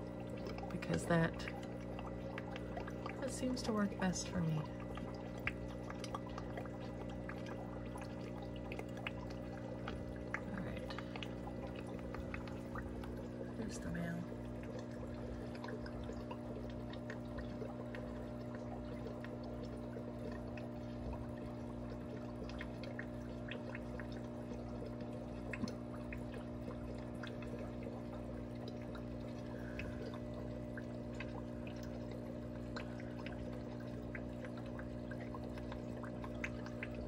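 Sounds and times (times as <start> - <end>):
tank equipment hum: 0.0 - 37.0
water drips and ticks: 0.0 - 37.0
water trickling: 0.0 - 37.0.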